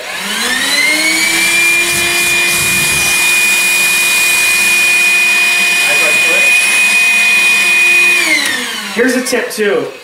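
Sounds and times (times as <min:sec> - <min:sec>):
cordless drill boring into wood: 0:00.0 - 0:09.2
shop vacuum whine: 0:00.0 - 0:09.2.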